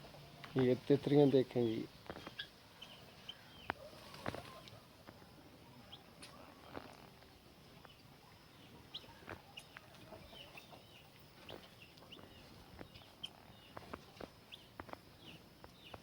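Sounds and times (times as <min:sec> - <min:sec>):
fowl chirping and clucking: 0:00.0 - 0:06.6, 0:07.4 - 0:16.0.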